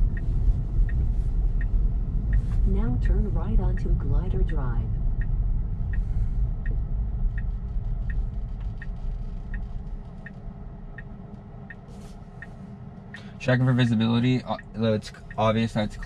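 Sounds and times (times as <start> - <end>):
road rumble in car cabin: 0.0 - 16.0
turn signal ticking: 0.0 - 16.0.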